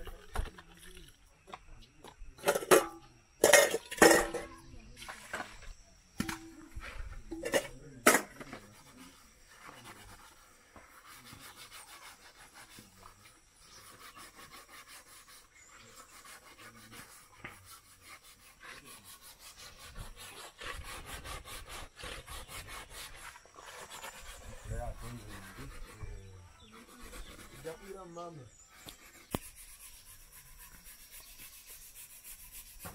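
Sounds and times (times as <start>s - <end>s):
metal basin being scrubbed: 2.4s - 32.9s.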